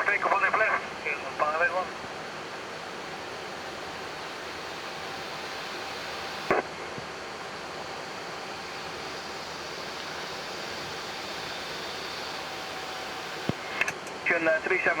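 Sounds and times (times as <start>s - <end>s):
steady rushing noise in cockpit: 0.0s - 15.0s.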